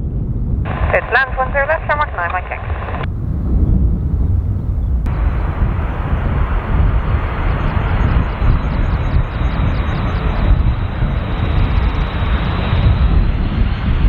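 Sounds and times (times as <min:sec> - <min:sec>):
jet engines roaring: 0:00.4 - 0:14.0.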